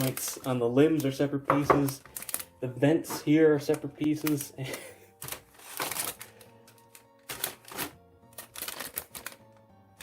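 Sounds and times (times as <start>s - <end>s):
plastic parts clicking and rustling: 0.0s - 9.5s
faint background music: 0.0s - 10.0s.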